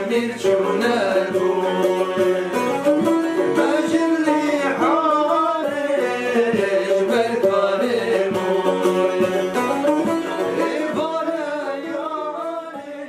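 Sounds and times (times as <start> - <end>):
men singing folk song: 0.0 - 13.0
plucked banjo: 0.0 - 13.0
saz playing: 0.0 - 13.0.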